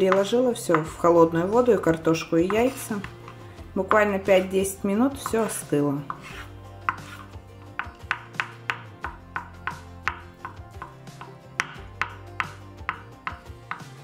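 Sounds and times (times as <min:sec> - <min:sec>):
knife chopping on cutting board: 0:00.0 - 0:14.0
quiet background music: 0:00.0 - 0:14.0.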